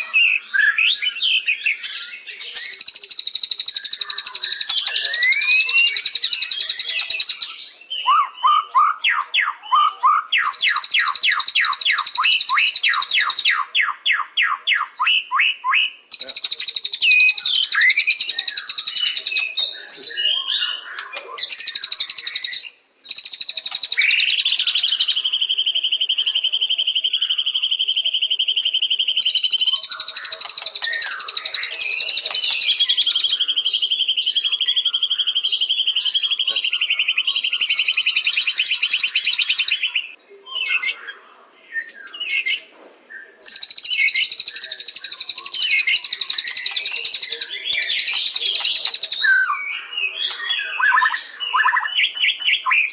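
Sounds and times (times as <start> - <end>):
bird singing varied song: 0.0 - 52.9.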